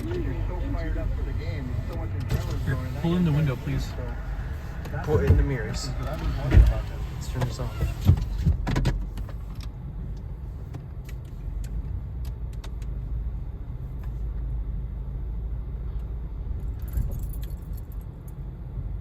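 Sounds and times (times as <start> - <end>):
low rumble inside car: 0.0 - 19.0.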